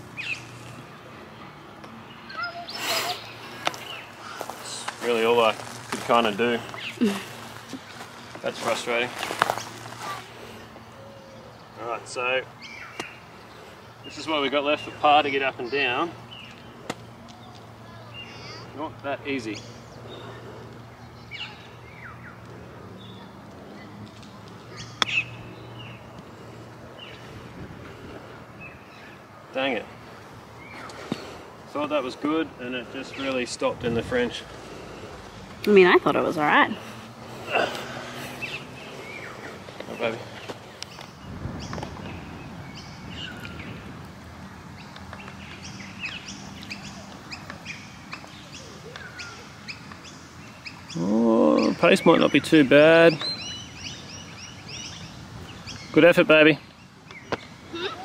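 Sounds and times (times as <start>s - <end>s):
birds chirping and whistling: 0.0s - 1.1s, 1.9s - 23.4s, 24.6s - 29.3s, 30.0s - 44.0s, 44.7s - 58.0s.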